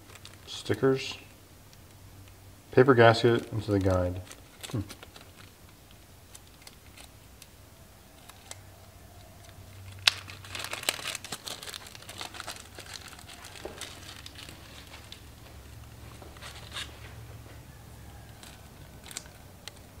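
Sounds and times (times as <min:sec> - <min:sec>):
plastic bag crinkling: 0:00.0 - 0:01.2, 0:03.3 - 0:07.4, 0:08.1 - 0:17.3, 0:18.0 - 0:20.0.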